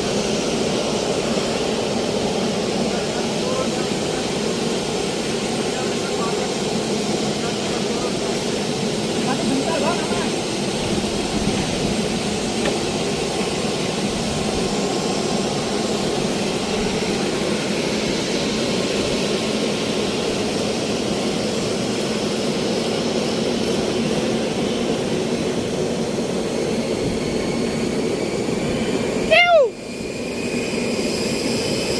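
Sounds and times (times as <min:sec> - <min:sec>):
jet engine running: 0:00.0 - 0:31.9.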